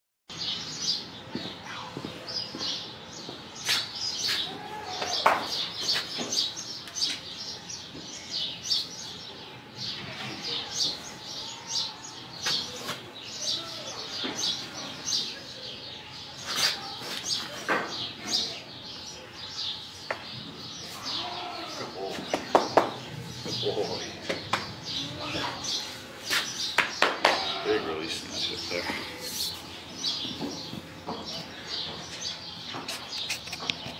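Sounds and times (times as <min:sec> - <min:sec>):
small birds chirping: 0:00.3 - 0:33.9.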